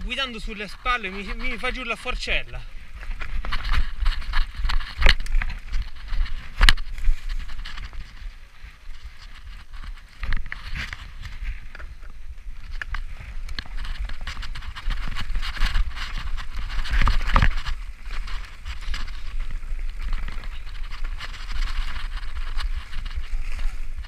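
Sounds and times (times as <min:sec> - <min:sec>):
bike rattling and knocking: 0:00.0 - 0:24.0
bike tyres crunching over leaves: 0:00.0 - 0:24.0.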